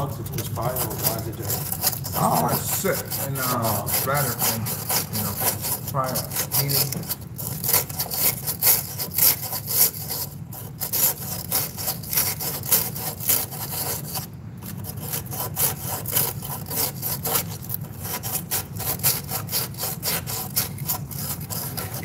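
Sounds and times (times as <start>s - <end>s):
sandpaper rubbing metal tube: 0.0s - 22.0s
steady low hum: 0.0s - 22.0s.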